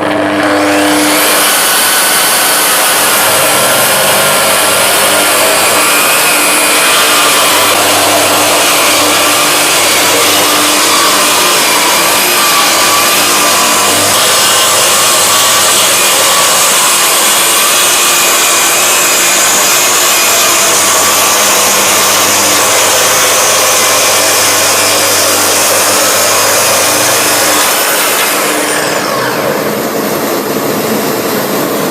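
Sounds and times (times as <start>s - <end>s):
circular saw cutting timber: 0.0s - 31.9s.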